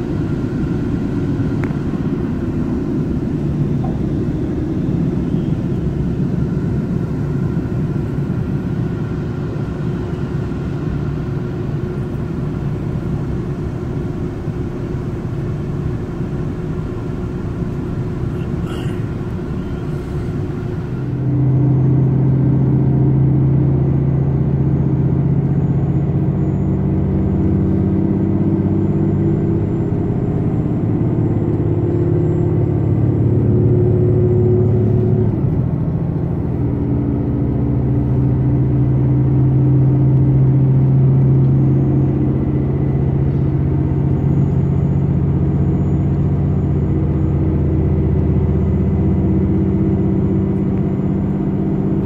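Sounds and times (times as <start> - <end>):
train diesel engine drone: 0.0 - 52.0.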